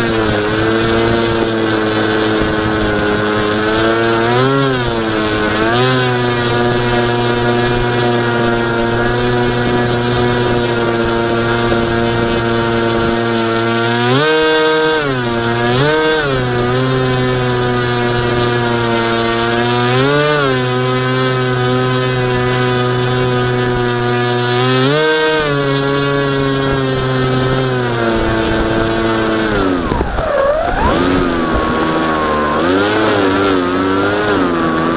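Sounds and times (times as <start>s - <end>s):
electric motor propeller whining: 0.0s - 34.9s.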